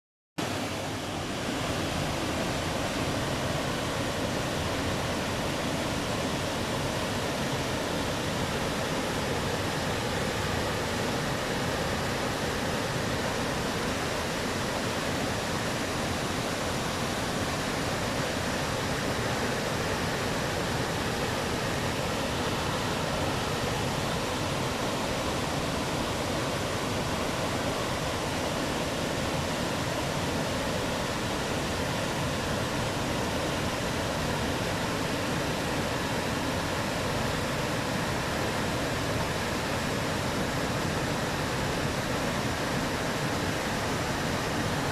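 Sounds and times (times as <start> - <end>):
waterfall rushing: 0.4 - 44.9.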